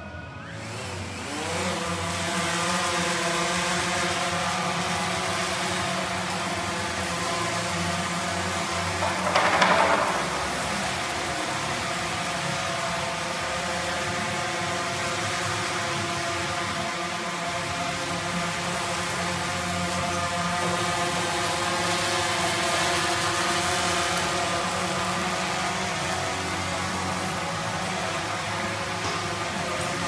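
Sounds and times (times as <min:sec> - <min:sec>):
drone propellers buzzing: 0:00.4 - 0:30.0.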